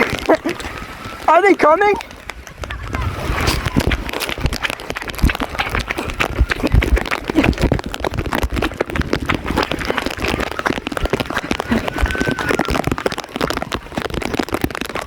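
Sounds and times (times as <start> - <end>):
footsteps splashing on wet ground: 0.0 - 15.0
rain: 0.0 - 15.0.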